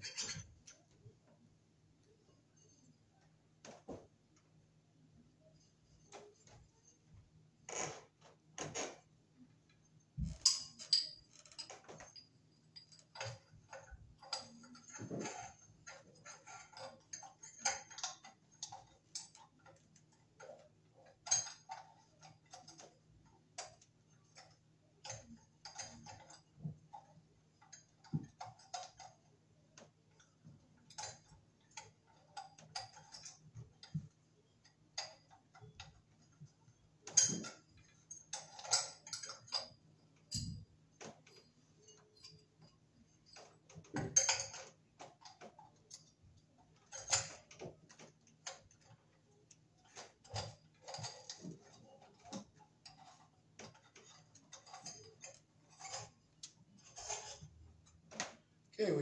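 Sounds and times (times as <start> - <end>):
glass shades clinking: 0.0 - 0.9, 9.8 - 23.0, 23.6 - 58.5.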